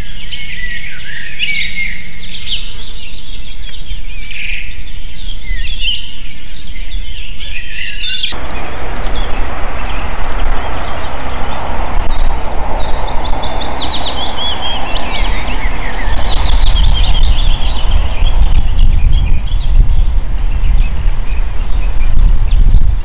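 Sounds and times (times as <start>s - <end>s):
bird chirping: 0.0s - 23.0s
wind buffeting microphone: 0.0s - 23.0s.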